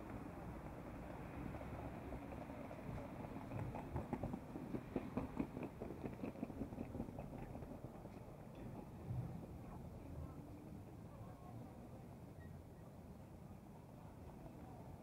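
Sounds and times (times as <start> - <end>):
city traffic hum: 0.0 - 12.3.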